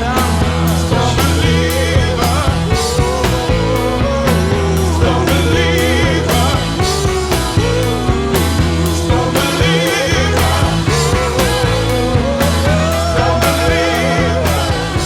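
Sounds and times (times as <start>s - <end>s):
drums striking: 0.0s - 15.0s
psychedelic rock band: 0.0s - 15.0s
steady bass: 0.0s - 15.0s
wavering lead melody: 0.0s - 15.0s.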